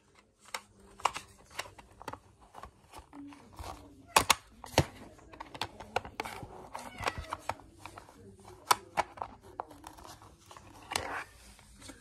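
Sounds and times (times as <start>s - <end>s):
plastic dvd case clicking and rattling: 0.0s - 12.0s.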